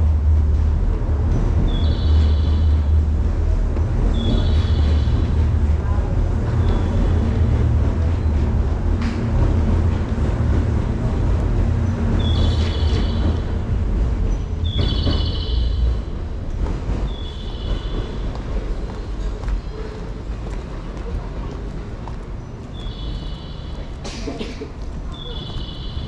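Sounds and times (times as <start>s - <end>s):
train rumbling on tracks: 0.0s - 26.0s.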